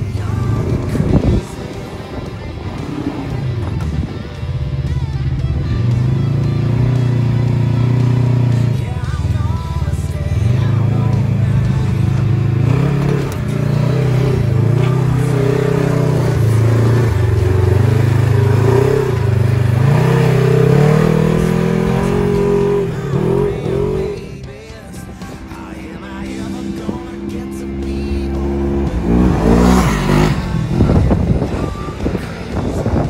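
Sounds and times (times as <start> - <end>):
background music: 0.0 - 33.0
engine revving: 0.0 - 33.0.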